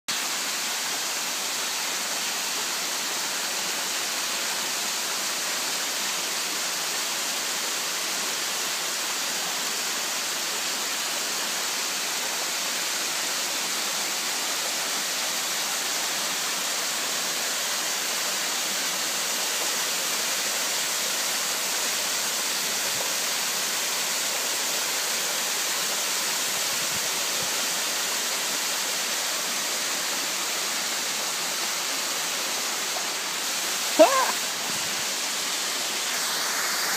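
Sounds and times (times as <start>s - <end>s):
waterfall rushing: 0.1s - 36.9s.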